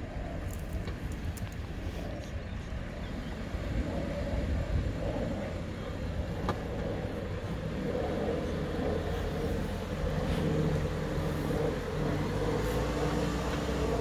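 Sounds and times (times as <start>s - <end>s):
car engine running under load: 0.0s - 14.0s.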